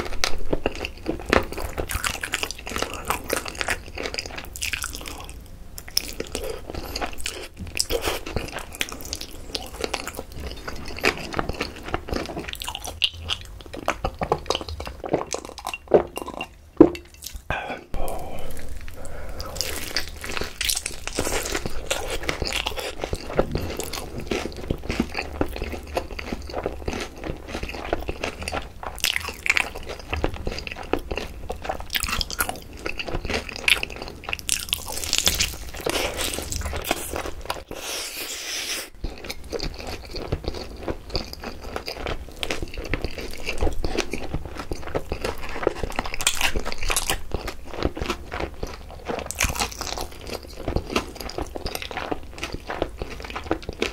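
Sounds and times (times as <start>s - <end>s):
fried chicken crunching: 0.0s - 16.4s, 18.1s - 53.9s.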